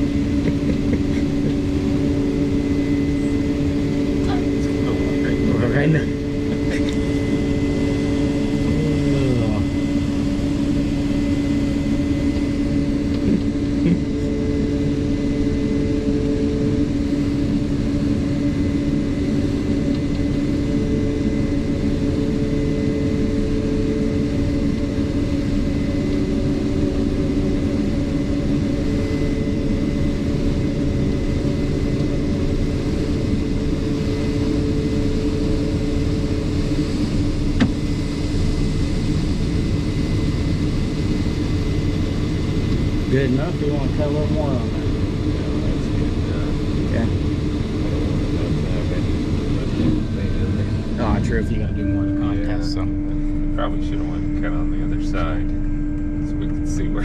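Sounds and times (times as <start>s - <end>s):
combine engine drone: 0.0s - 57.0s
higher machine tone: 0.0s - 57.0s.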